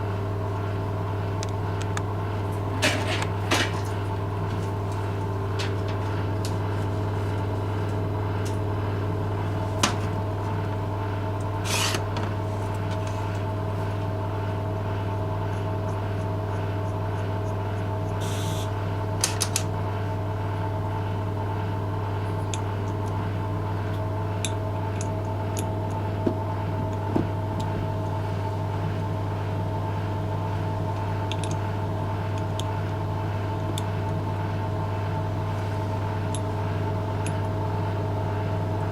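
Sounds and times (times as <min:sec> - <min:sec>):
motor humming: 0:00.0 - 0:38.9.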